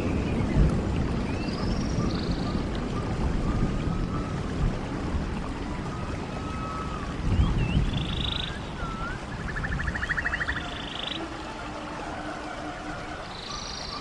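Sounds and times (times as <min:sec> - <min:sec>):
birds singing whistles and trills: 0:00.0 - 0:04.6, 0:05.6 - 0:14.0
stream water running: 0:00.0 - 0:14.0.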